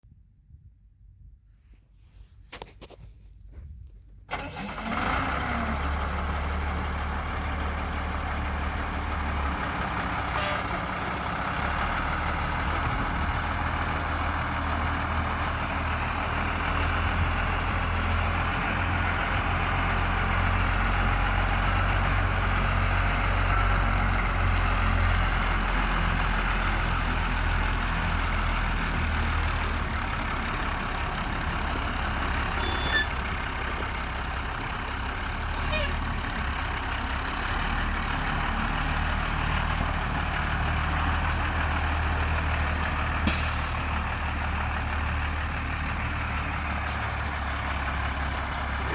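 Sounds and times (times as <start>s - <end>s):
diesel truck engine idling: 4.3s - 48.9s.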